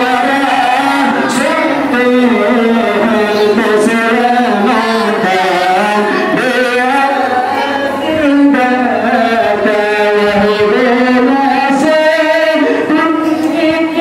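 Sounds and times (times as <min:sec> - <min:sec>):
voices chanting devotional chant: 0:00.0 - 0:14.0.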